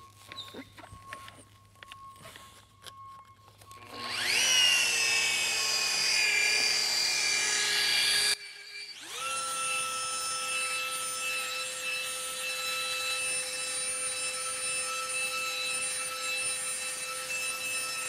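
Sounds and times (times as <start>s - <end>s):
electric polisher motor whining: 0.3s - 18.0s.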